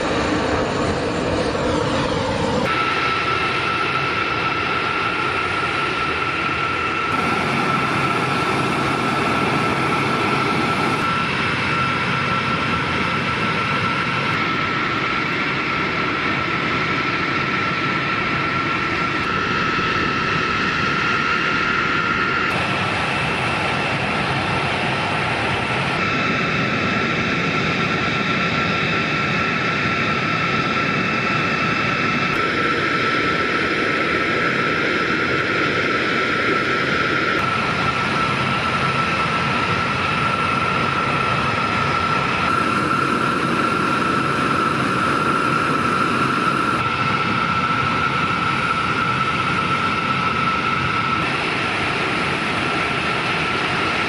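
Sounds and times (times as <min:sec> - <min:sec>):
jet engines rushing and whining: 0:00.0 - 0:54.0.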